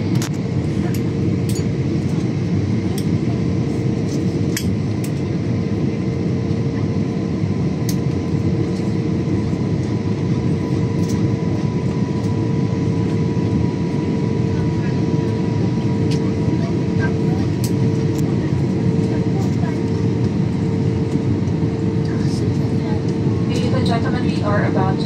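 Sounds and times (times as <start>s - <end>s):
airliner engines droning: 0.0s - 25.0s
constant hum: 0.0s - 25.0s.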